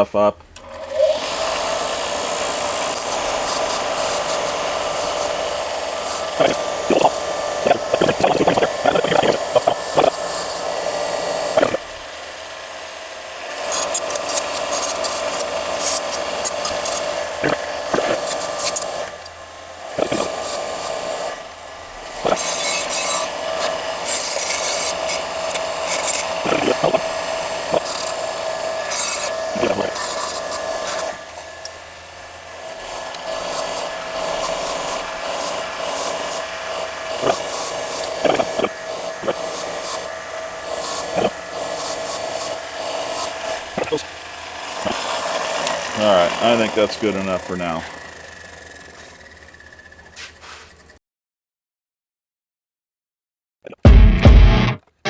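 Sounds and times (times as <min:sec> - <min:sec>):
wire wheel spinning whine: 0:00.6 - 0:51.0.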